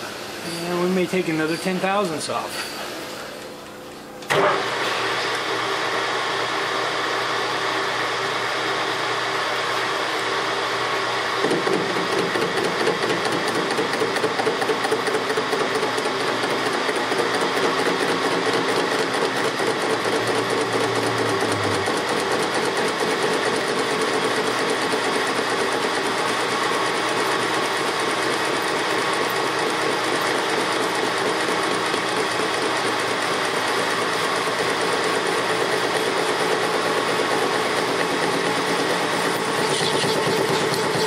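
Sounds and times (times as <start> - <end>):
metal lathe running: 4.4 - 41.0.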